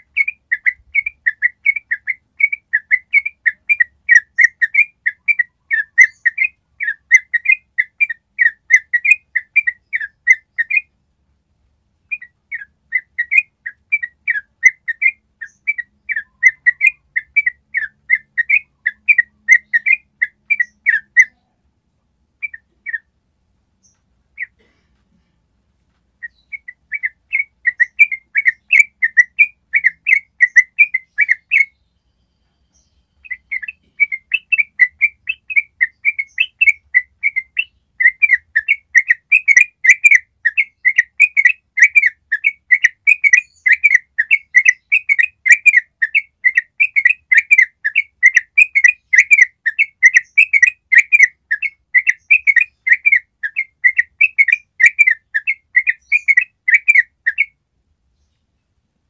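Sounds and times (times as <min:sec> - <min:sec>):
bulbul singing fast repeated notes: 0:00.0 - 0:10.9, 0:12.1 - 0:21.4, 0:26.2 - 0:31.8, 0:33.2 - 0:57.6.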